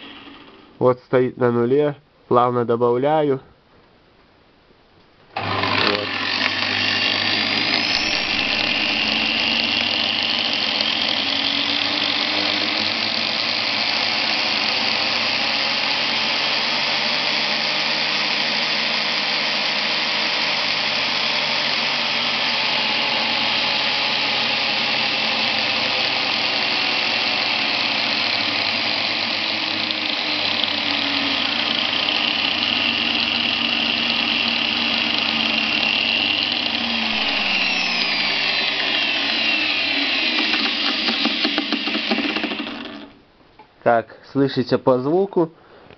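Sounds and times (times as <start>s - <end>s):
angle grinder whine: 0.0s - 0.8s, 5.4s - 43.3s.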